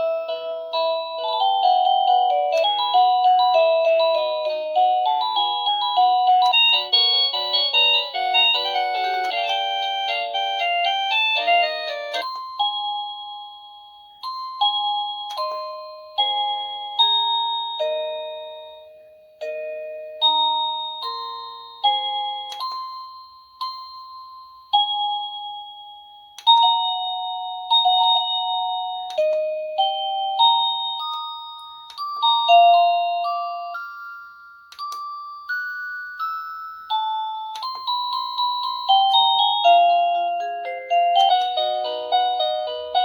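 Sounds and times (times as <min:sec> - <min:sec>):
doorbell chime melody: 0:00.0 - 0:43.0.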